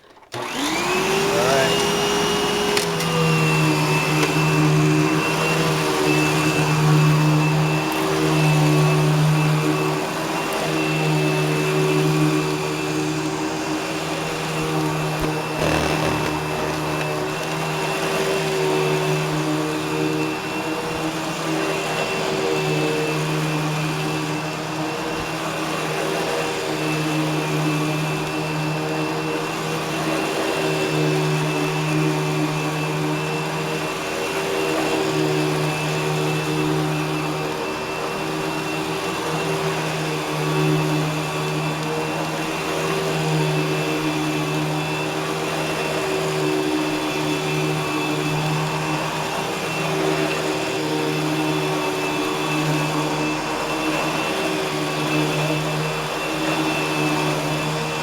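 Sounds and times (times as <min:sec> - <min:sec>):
vacuum cleaner droning on carpet: 0:00.0 - 0:58.0.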